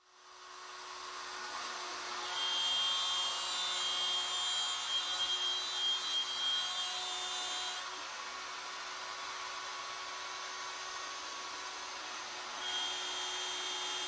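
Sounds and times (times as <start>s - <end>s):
wood router high whine: 0.2s - 14.0s.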